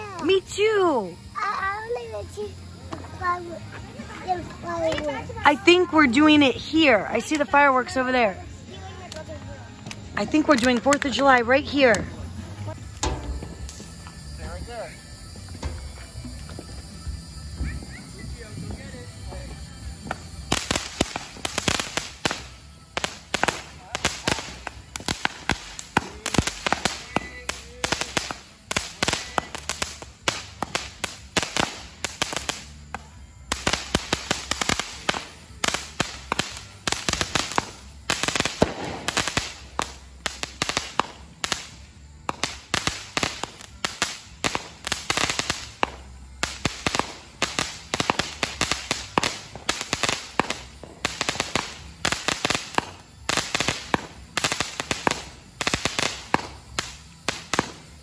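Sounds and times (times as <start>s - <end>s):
fireworks bangs: 10.2s - 18.8s, 19.9s - 58.0s.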